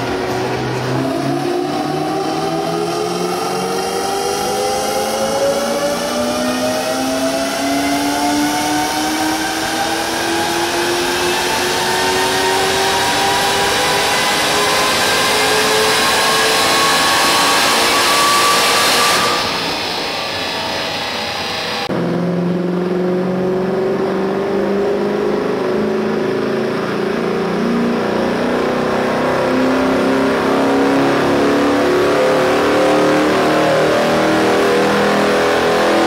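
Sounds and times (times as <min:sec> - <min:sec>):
car engine revving under load: 0:00.0 - 0:36.0.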